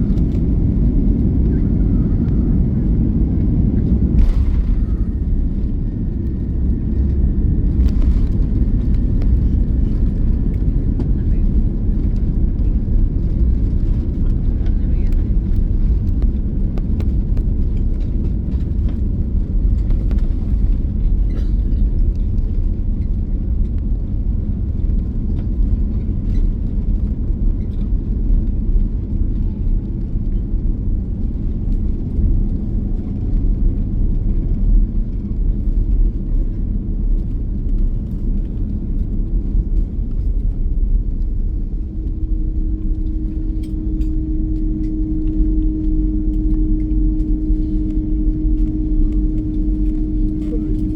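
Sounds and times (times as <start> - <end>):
steady hum: 0.0 - 24.6, 29.8 - 50.9
airliner cabin engine rumble: 0.0 - 50.9.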